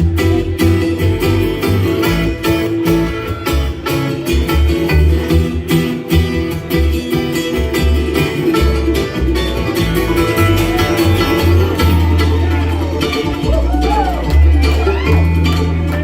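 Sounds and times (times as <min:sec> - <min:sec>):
acoustic guitar picking: 0:00.0 - 0:16.0
banjo picking: 0:00.0 - 0:16.0
low bass line: 0:00.0 - 0:16.0.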